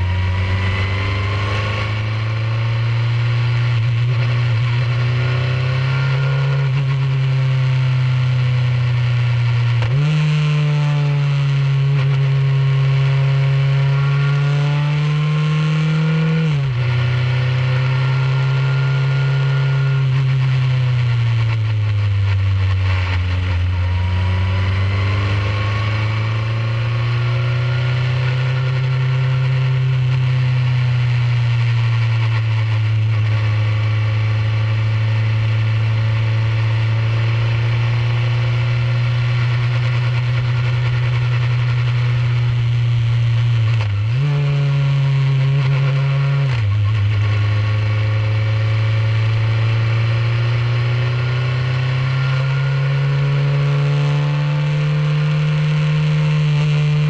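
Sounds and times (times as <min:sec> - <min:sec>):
air rush and road noise: 0:00.0 - 0:57.0
race car engine: 0:00.0 - 0:57.0.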